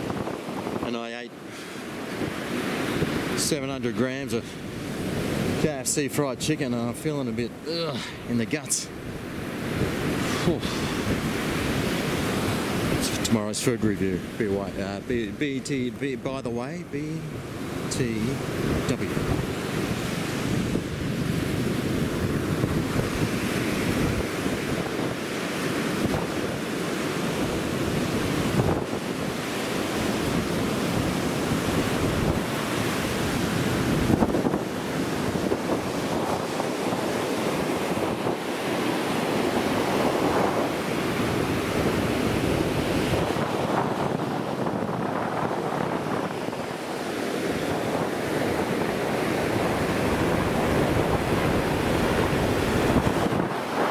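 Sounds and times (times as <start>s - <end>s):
ocean surf on beach: 0.0s - 53.9s
wind buffeting microphone: 0.0s - 53.9s.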